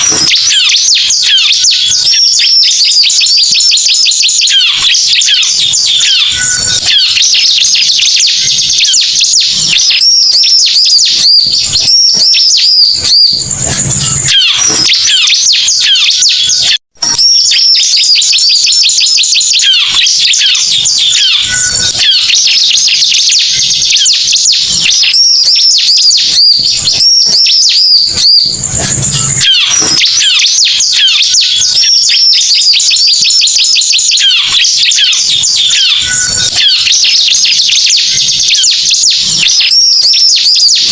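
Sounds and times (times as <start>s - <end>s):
bird chirps and trills: 0.0s - 40.9s.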